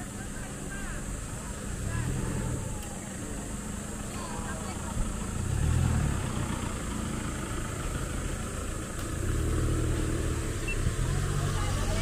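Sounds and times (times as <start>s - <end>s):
engine running at low revs: 1.0s - 12.0s.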